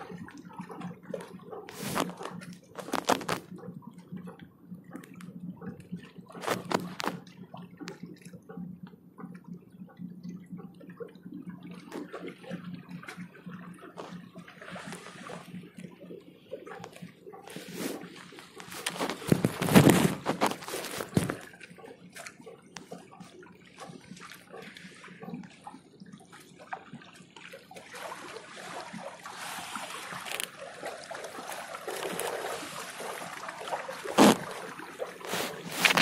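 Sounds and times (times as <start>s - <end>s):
water sloshing against boat: 0.0s - 36.0s.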